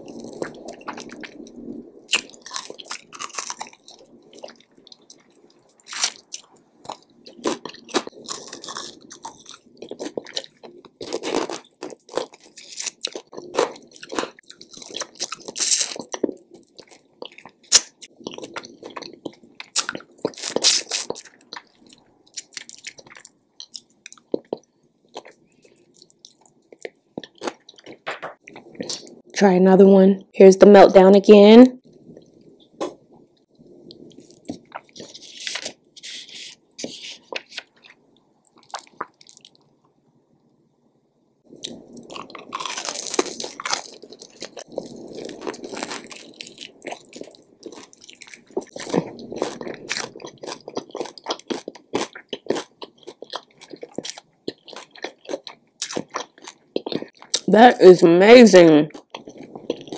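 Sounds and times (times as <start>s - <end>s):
person chewing crunchy chicken: 0.0s - 29.2s, 33.7s - 39.7s, 41.5s - 57.5s, 58.9s - 59.9s.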